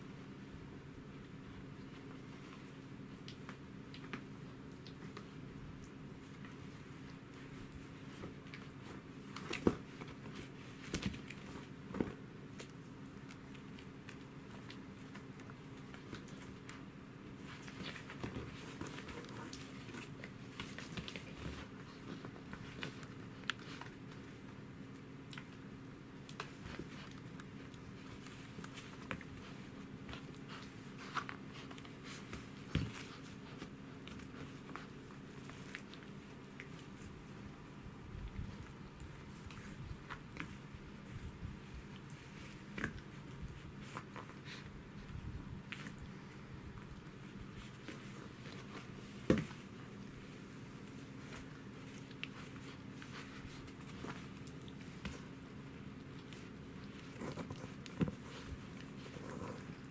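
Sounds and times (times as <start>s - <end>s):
puppy chewing fabric toy: 1.9s - 59.9s.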